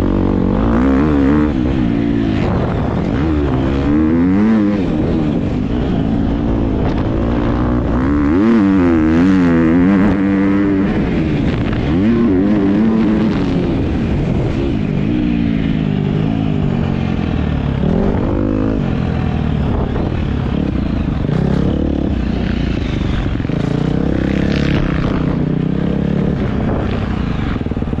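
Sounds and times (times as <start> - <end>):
dirt bike engine accelerating: 0.0 - 28.0.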